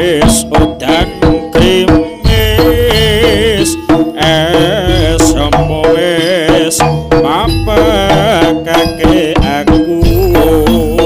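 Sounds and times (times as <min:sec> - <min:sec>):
hand drum playing: 0:00.0 - 0:11.0
wavering melody line: 0:00.0 - 0:11.0.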